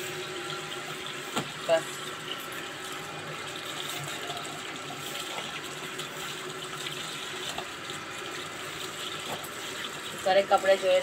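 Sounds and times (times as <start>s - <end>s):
water running from a hose: 0.0s - 11.0s.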